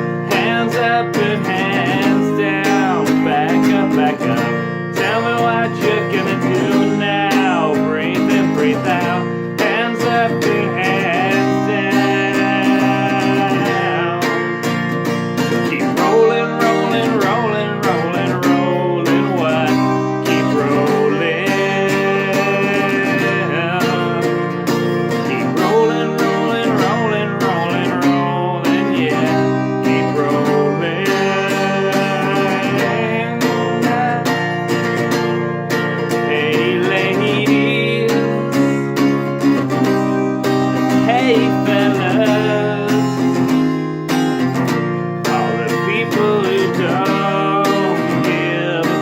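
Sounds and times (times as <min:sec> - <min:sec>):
acoustic guitar strumming: 0:00.0 - 0:49.0.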